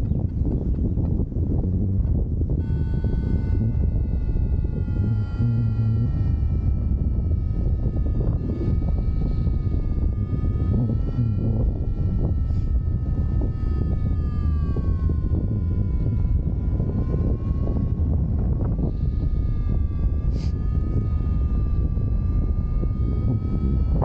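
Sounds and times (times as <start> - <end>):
wind buffeting microphone: 0.0 - 24.0
thin steady tone: 2.5 - 24.0.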